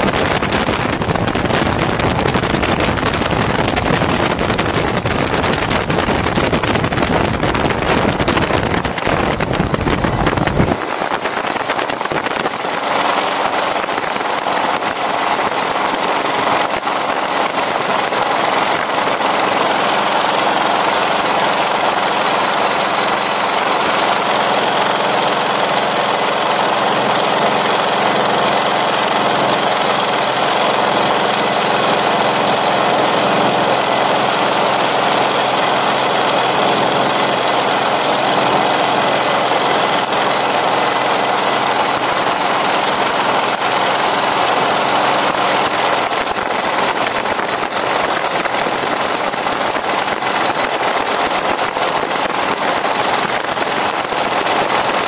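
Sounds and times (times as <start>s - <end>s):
two-stroke engine idling: 0.0s - 55.0s.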